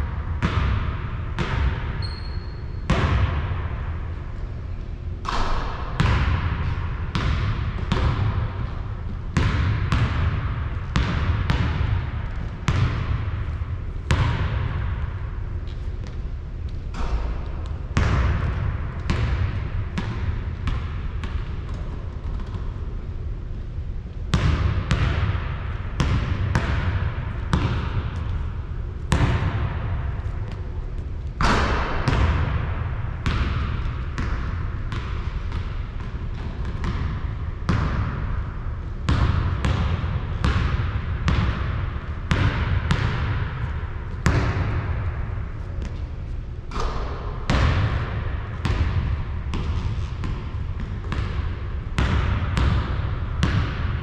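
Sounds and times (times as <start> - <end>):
basketball bouncing: 0.0 - 3.9, 5.2 - 22.8, 24.3 - 54.0.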